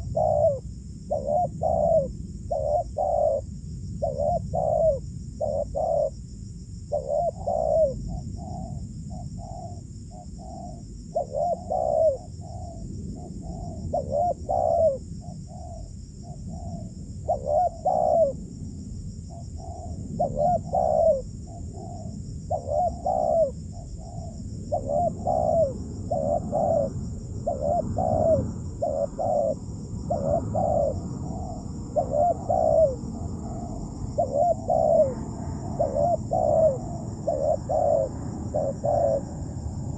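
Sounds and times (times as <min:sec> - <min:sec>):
doves cooing: 0:00.0 - 0:06.2, 0:06.9 - 0:18.5, 0:19.3 - 0:39.6.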